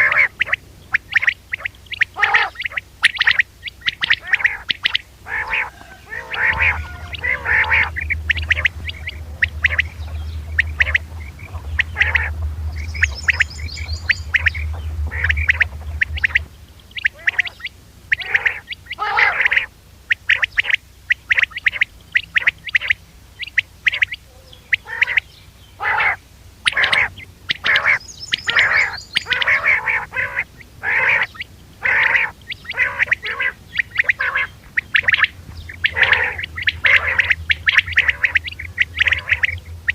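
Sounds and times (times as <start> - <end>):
quail calling: 0.0 - 39.9
steady low hum: 0.0 - 39.9.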